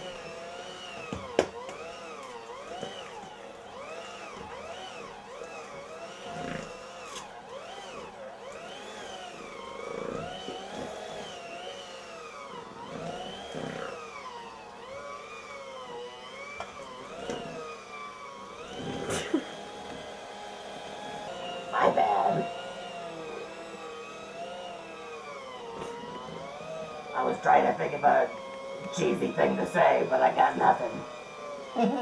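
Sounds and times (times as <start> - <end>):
electric hand mixer whine: 0.0 - 32.0.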